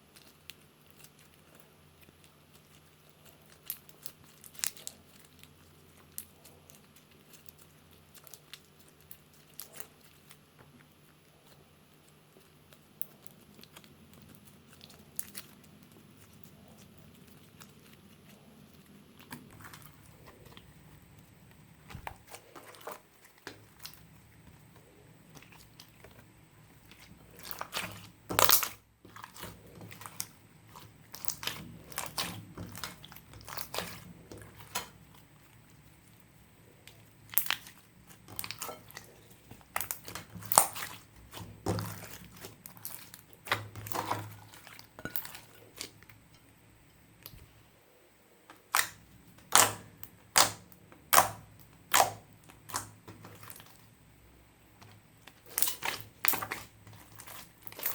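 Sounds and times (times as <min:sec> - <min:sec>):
slime squished by hand: 0:00.0 - 0:11.6, 0:12.3 - 0:36.0, 0:36.8 - 0:46.1, 0:48.5 - 0:53.9, 0:55.2 - 0:57.9.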